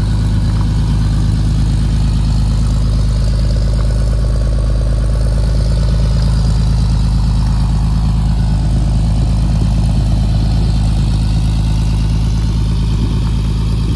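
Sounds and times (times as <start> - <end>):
pickup engine idling: 0.0 - 13.9.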